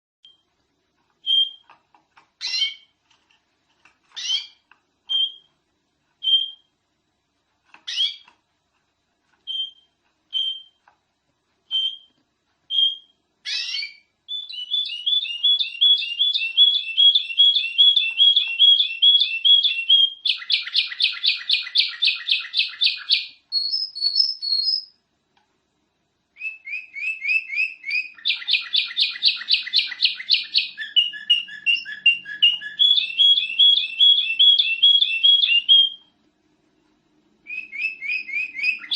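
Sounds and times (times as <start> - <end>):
canary chirping and trilling: 0.2 - 6.8, 7.6 - 8.5, 9.3 - 11.0, 11.6 - 25.0, 26.3 - 36.2, 37.4 - 38.9.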